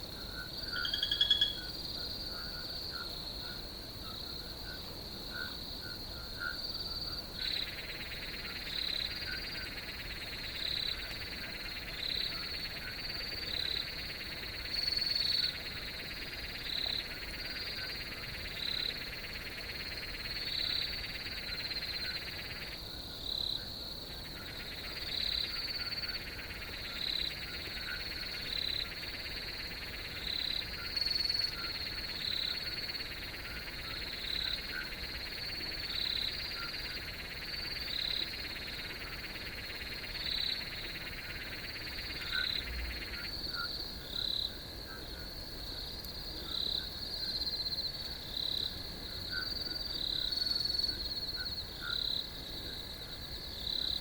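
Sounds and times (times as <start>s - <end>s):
lower cricket chorus: 0.0s - 54.0s.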